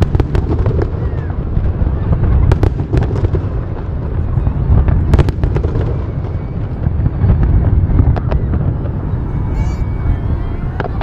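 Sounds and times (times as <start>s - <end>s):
fireworks rumbling: 0.0s - 11.0s
fireworks sharp cracks: 0.0s - 11.0s.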